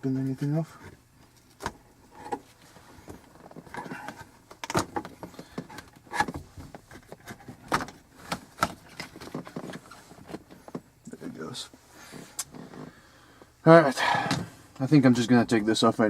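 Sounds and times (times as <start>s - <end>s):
rustling and creaking: 0.0s - 14.8s.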